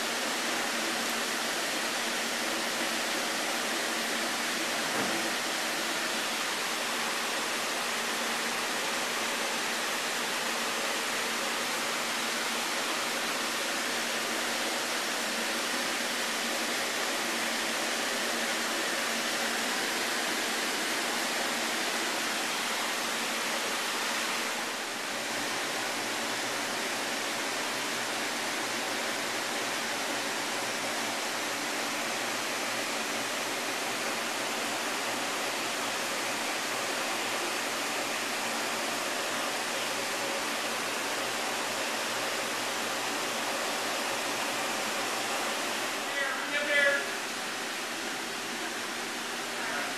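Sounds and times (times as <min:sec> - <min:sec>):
plumbing running: 0:00.0 - 0:49.9.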